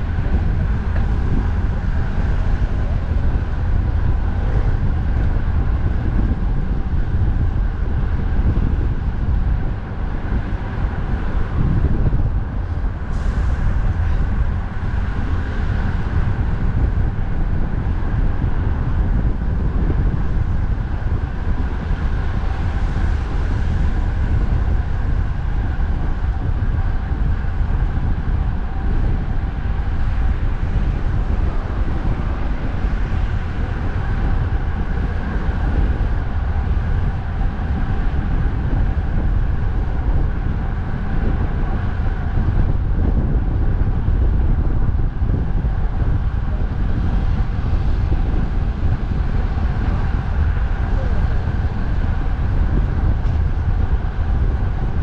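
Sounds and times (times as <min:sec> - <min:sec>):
highway traffic: 0:00.0 - 0:55.0
wind buffeting microphone: 0:00.0 - 0:55.0.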